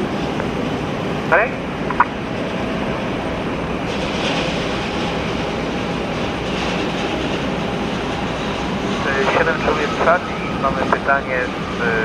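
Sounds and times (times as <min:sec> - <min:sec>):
jet engines rumbling and hissing: 0:00.0 - 0:12.0.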